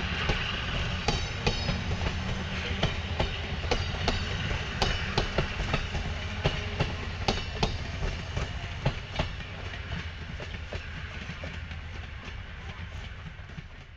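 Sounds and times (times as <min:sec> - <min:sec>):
train rolling past: 0:00.0 - 0:13.9.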